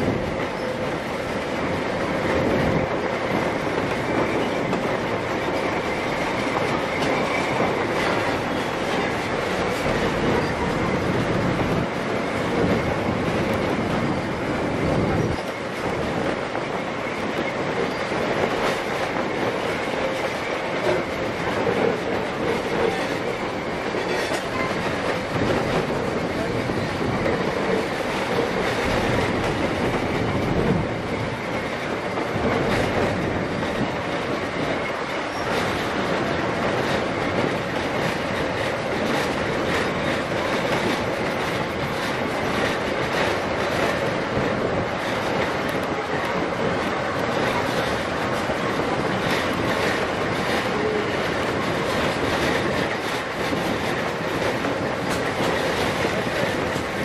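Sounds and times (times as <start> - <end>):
train rumbling along track: 0.0 - 57.0
wheels clicking over rail joints: 0.0 - 57.0.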